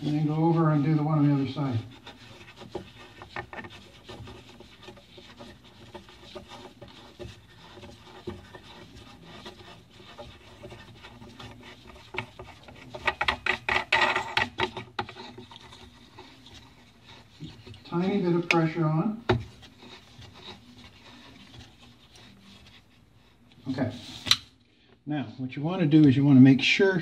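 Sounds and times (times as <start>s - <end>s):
hands rubbing and scraping nut: 0.0s - 24.2s.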